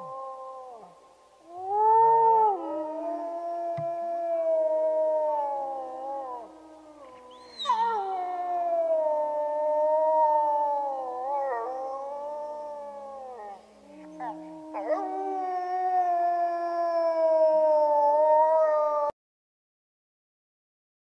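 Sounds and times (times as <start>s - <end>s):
canines howling together: 0.0s - 19.1s.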